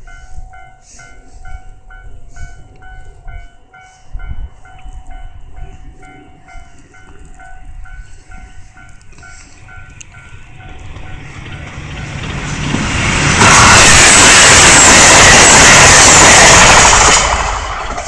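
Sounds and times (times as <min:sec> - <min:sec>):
diesel train rumbling past: 0:00.0 - 0:18.0.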